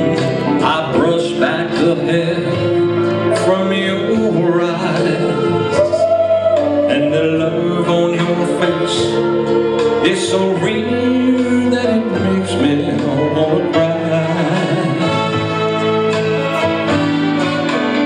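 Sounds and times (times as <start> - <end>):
man singing into a microphone: 0.0 - 15.7
instrumental backing music: 0.0 - 18.0.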